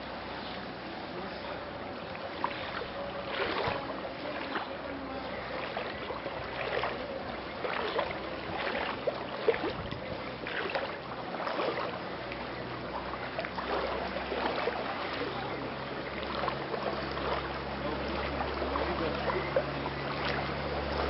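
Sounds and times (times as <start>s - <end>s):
floodwater splashing: 0.0s - 21.0s
moving water washing: 0.0s - 21.0s.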